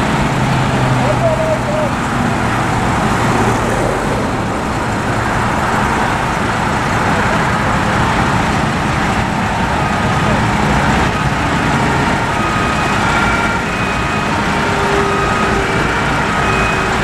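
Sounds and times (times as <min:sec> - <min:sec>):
fire engine driving: 0:00.0 - 0:17.0.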